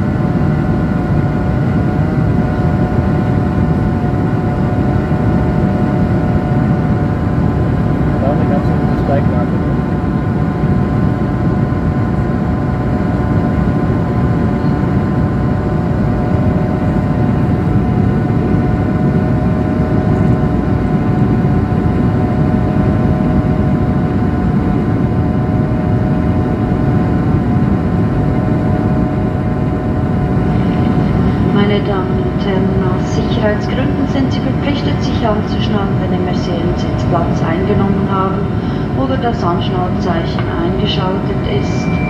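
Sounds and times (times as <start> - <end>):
airplane cabin engine drone: 0.0 - 42.0
steady whining tones: 0.0 - 42.0.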